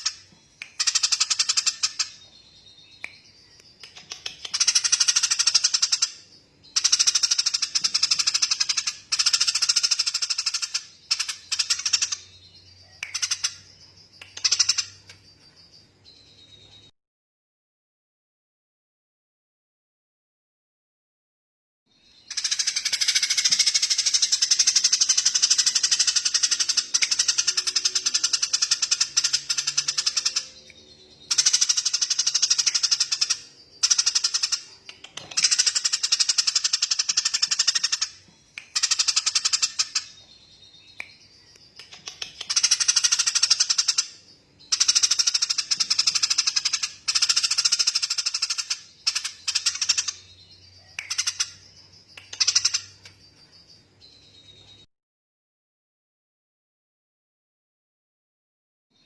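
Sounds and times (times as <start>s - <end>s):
songbird rattling trill: 0.0s - 15.8s, 22.2s - 30.6s, 31.2s - 54.2s.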